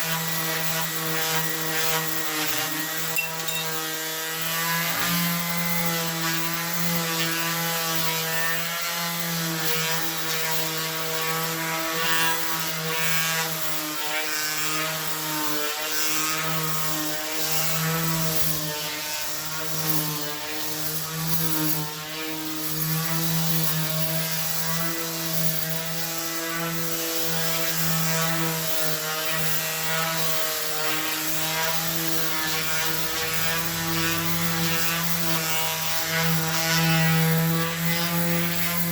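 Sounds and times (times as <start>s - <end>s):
power sander on metal: 0.0s - 38.9s.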